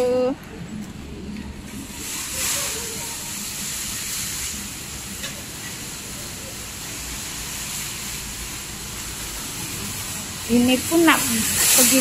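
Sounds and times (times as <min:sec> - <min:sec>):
constant hiss: 0:00.0 - 0:12.0.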